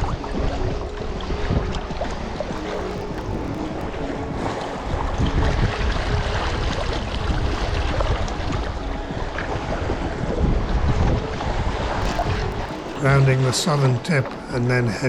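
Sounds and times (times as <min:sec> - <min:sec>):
water lapping and splashing: 0:00.0 - 0:15.0
wind rumbling on microphone: 0:00.0 - 0:15.0.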